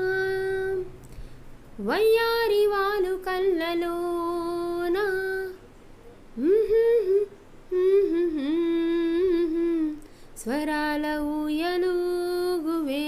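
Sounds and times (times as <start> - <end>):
woman singing slow song: 0.0 - 13.0.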